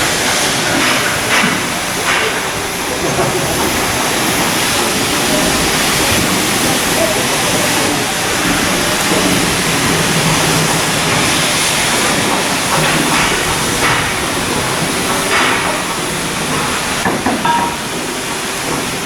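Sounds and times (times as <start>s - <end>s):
loud hissing and crackling: 0.0s - 19.0s.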